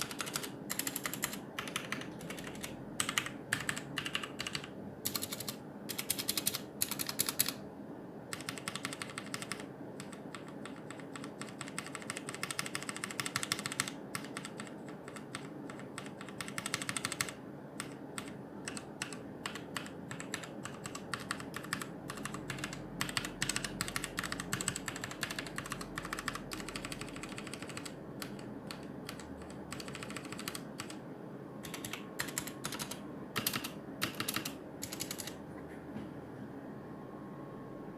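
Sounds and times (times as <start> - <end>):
mechanical keyboard typing: 0.0 - 7.6, 8.3 - 31.0, 31.6 - 35.4.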